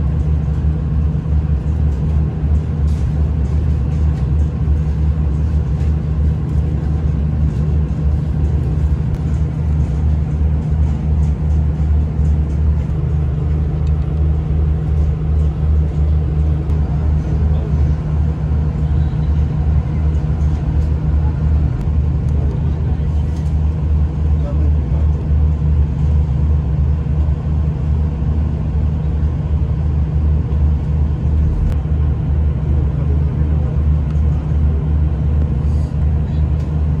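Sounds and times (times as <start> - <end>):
train carriage rumble and drone: 0.0 - 37.0.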